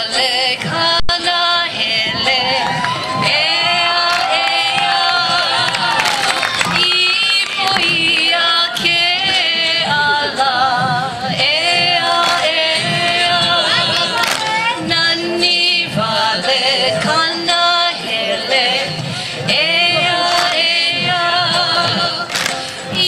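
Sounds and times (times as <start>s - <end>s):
voices singing with yodel-like pitch: 0.0s - 23.0s
low recurring beat: 0.6s - 23.0s.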